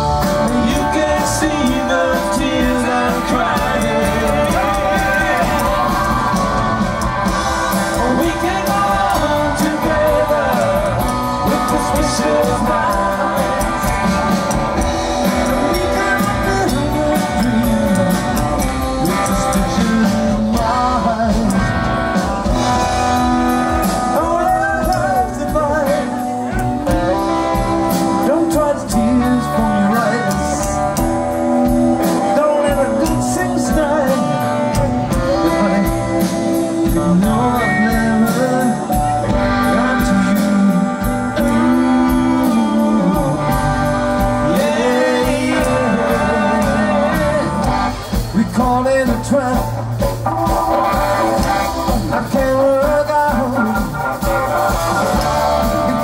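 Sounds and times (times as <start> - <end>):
man singing: 0.0 - 56.0
rock and roll band playing: 0.0 - 56.0.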